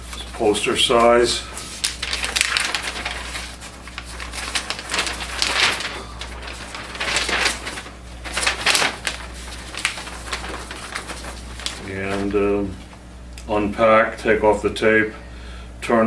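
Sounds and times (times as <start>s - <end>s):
paper crackling and rustling: 0.0s - 13.0s.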